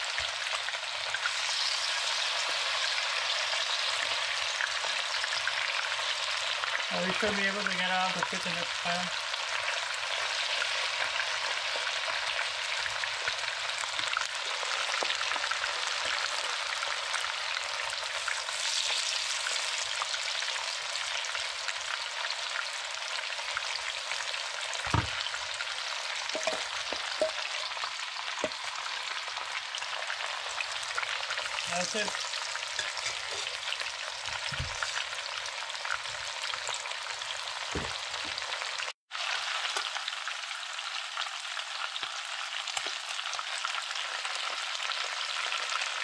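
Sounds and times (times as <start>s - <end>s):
fish sizzling in a frying pan: 0.0s - 46.0s.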